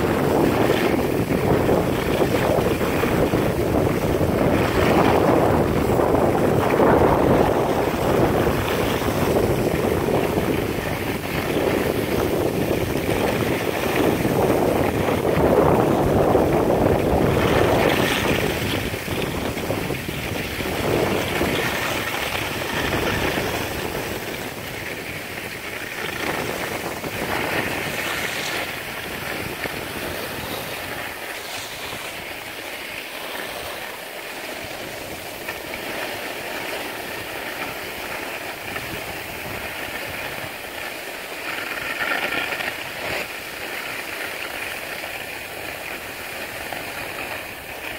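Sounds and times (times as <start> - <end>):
skis scraping over packed snow: 0.0 - 47.9
wind on microphone: 0.0 - 47.9.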